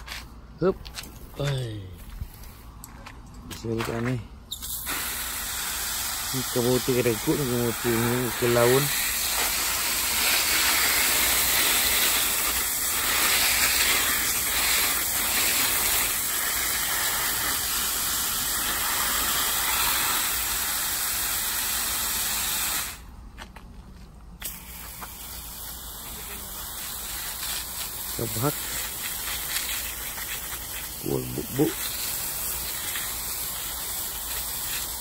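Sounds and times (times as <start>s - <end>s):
hose nozzle spraying water: 4.5s - 23.0s, 24.4s - 35.0s.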